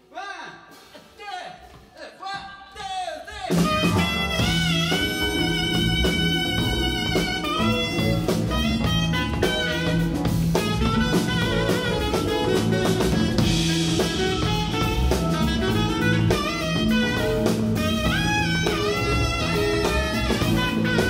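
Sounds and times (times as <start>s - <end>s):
drum kit: 0.0s - 21.0s
bass guitar: 3.5s - 21.0s
keyboard: 3.5s - 21.0s
saxophone melody: 3.5s - 21.0s.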